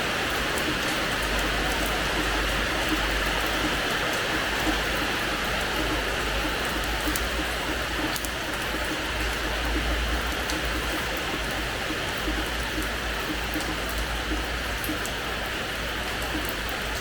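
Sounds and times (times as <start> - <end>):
rain on hard floor: 0.0 - 17.0.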